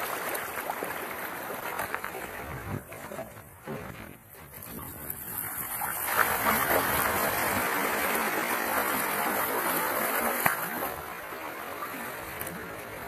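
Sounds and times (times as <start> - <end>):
sea water sloshing against hull: 0.0 - 13.0.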